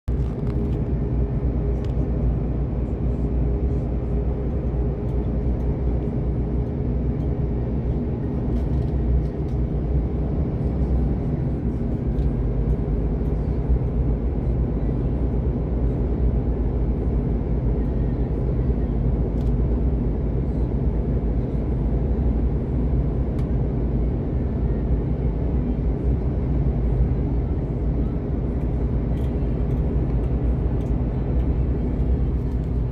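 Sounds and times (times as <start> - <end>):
vehicle rumbling in motion: 0.0 - 32.9
constant hum: 0.1 - 32.9.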